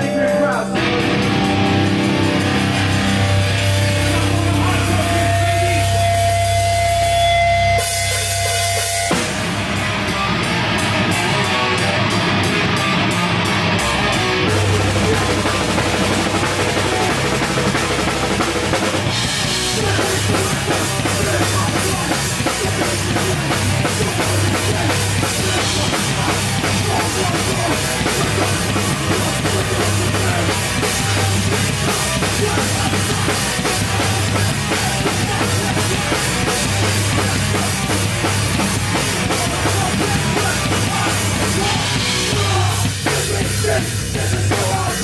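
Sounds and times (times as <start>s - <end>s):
loud drum kit: 0.0s - 45.0s
punk band playing live: 0.0s - 45.0s.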